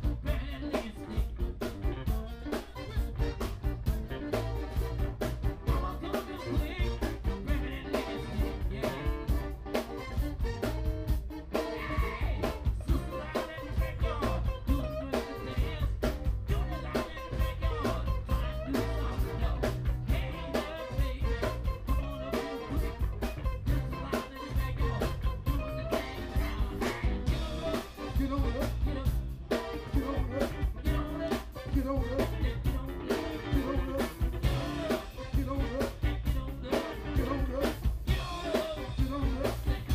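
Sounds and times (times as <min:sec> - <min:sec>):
man singing into a microphone: 0:00.0 - 0:01.7, 0:05.6 - 0:09.4, 0:11.6 - 0:39.9
drum kit steady beat: 0:00.0 - 0:39.9
electric guitar: 0:00.0 - 0:39.9.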